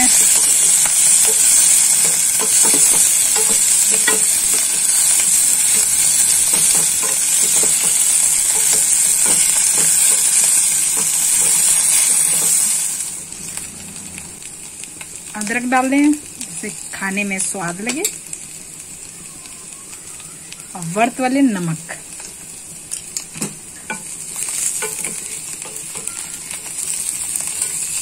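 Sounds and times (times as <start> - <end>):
potatoes sizzling in butter: 0.0 - 28.0.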